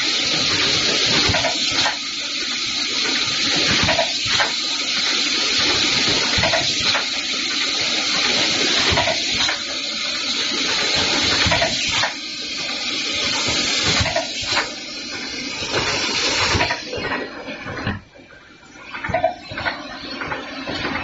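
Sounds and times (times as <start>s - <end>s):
packing machine rushing hiss: 0.0s - 17.2s
pneumatic pressing hiss: 0.0s - 17.2s.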